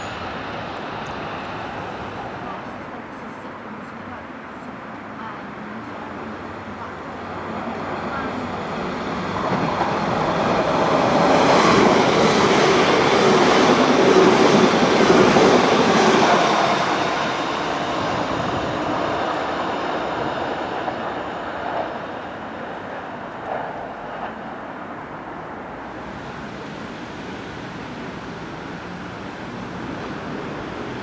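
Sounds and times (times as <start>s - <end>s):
passenger train running past: 0.0s - 31.0s.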